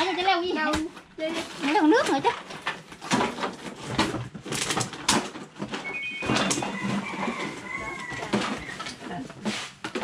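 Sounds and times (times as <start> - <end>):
plastic bottles and sack rustling: 0.0 - 10.0.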